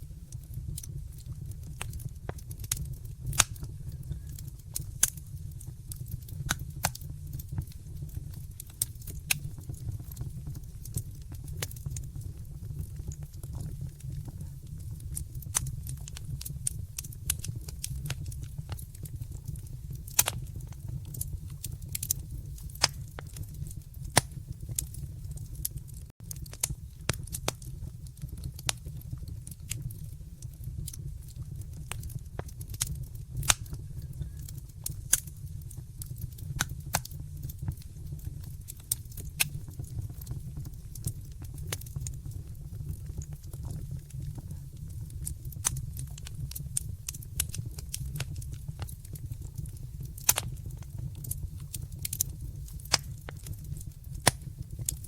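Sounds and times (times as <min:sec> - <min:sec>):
fire flames rumbling: 0:00.0 - 0:55.0
wood fire crackling and popping: 0:00.0 - 0:55.0.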